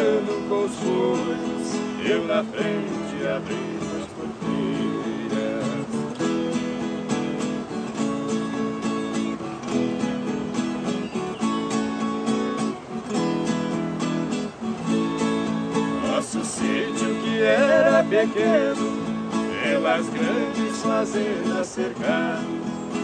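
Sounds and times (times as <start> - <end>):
acoustic guitar strumming: 0.0 - 23.0
viola caipira strumming: 0.0 - 23.0.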